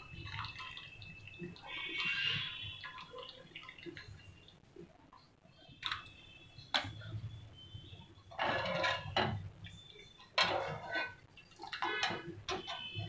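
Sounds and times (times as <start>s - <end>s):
water splashing: 0.0s - 4.9s, 5.7s - 13.0s.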